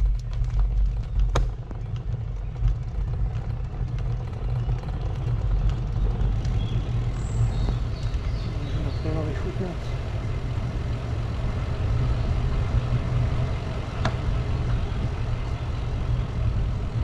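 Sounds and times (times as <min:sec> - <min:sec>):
wind and road noise rumble: 0:00.0 - 0:17.0.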